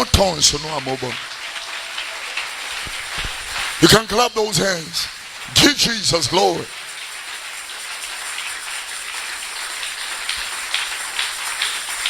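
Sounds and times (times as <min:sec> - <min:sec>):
crowd clapping: 0:00.0 - 0:04.1, 0:05.3 - 0:12.0.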